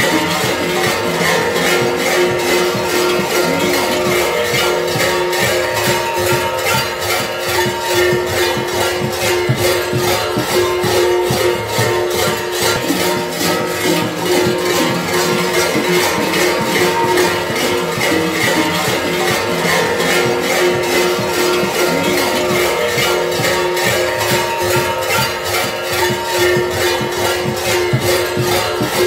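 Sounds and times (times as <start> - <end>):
large metal bells clanging: 0.0 - 29.0.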